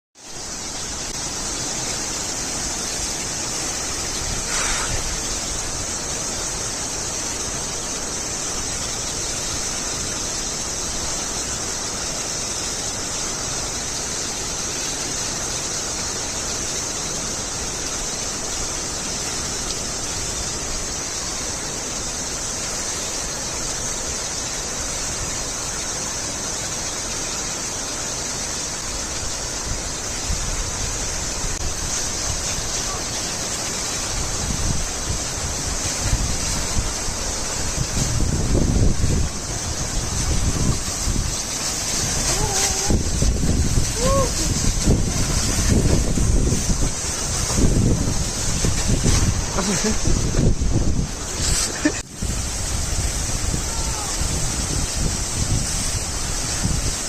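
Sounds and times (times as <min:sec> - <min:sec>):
waterfall rushing: 0:00.2 - 0:57.0.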